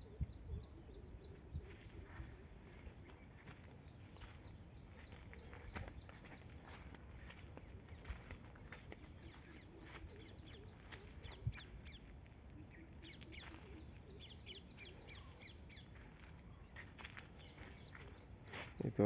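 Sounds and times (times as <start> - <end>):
faint bird calls: 0.0 - 19.0.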